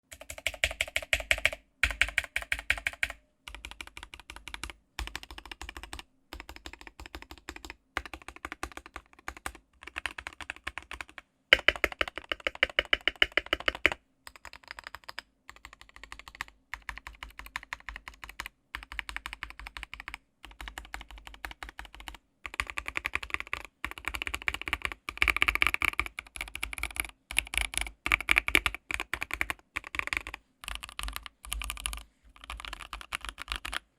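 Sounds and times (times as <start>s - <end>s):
mechanical keyboard keys clicking: 0.1s - 33.8s.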